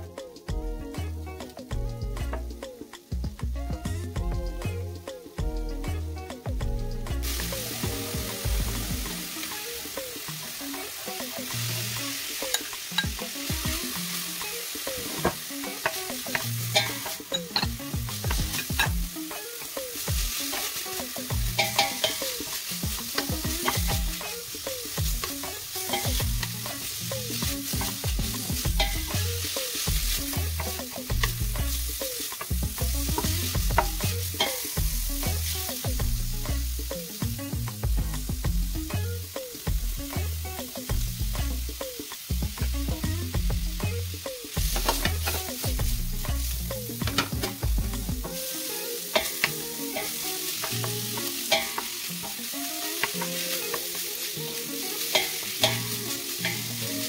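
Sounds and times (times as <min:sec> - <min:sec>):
sausage and garlic sizzling in pan: 0:00.0 - 0:57.0.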